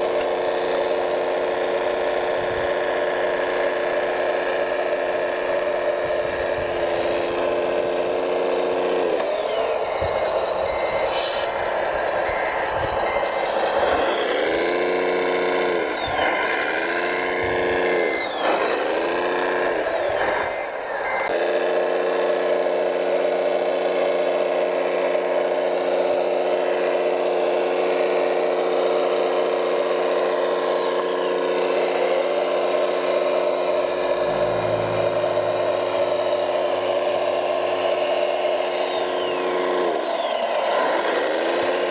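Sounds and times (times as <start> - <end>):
electric motor and hydraulic pump whining: 0.0 - 41.9.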